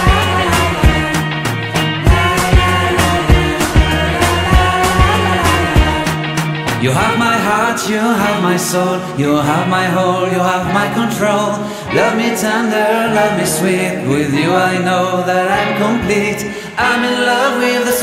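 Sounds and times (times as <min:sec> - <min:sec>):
pop song with singing: 0:00.0 - 0:18.0.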